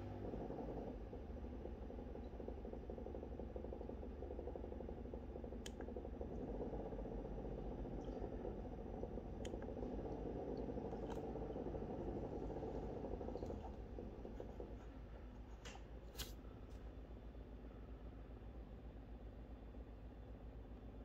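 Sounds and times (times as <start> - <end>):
aquarium pump whirring: 0.0 - 19.7.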